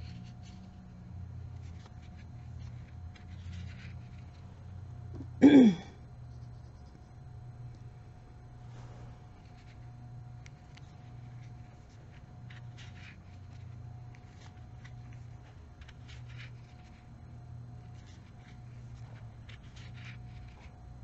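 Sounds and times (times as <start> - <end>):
crochet hook scratching yarn: 0.0 - 4.5, 6.2 - 7.2, 9.2 - 21.0
low hum: 0.0 - 21.0.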